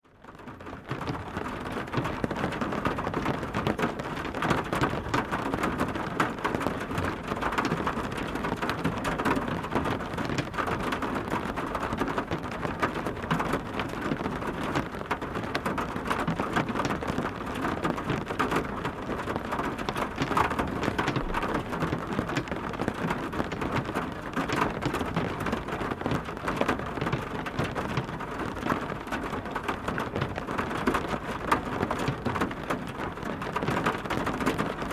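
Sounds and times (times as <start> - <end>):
heavy rain: 0.2 - 34.9.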